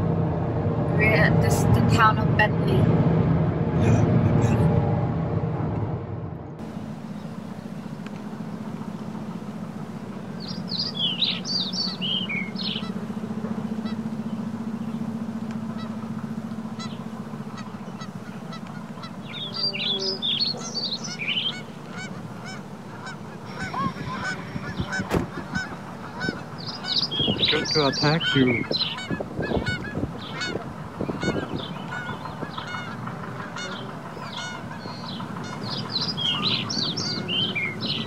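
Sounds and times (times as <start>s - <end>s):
steady low hum: 0.0s - 38.0s
geese honking: 6.6s - 38.0s.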